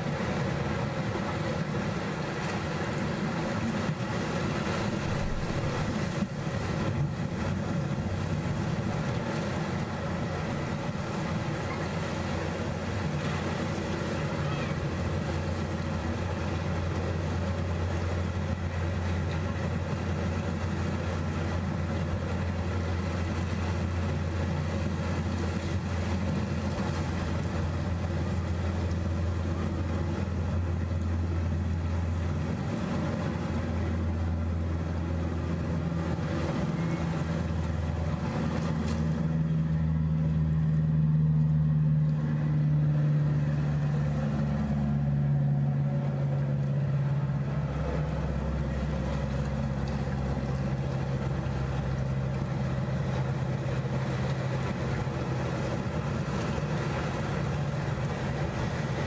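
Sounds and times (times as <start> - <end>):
waves washing on rocks: 0.0 - 39.3, 47.4 - 59.0
low engine hum: 0.0 - 59.0.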